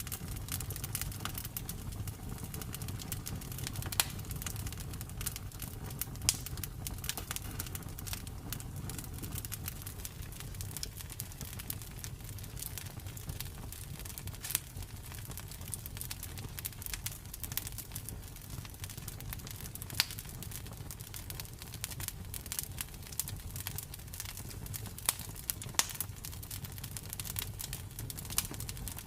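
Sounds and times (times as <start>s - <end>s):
campfire crackling: 0.0s - 29.0s
fire pops: 0.0s - 29.0s.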